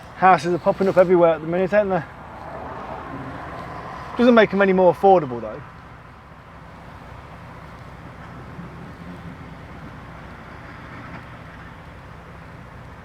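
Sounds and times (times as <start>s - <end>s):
lorry engine running: 0.0s - 13.0s
road noise: 0.0s - 13.0s.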